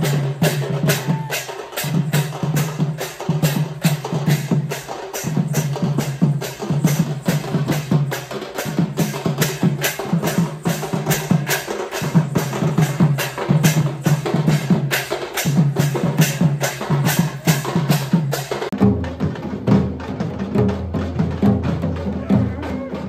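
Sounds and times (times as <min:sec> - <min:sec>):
processional drums beating: 0:00.0 - 0:23.0.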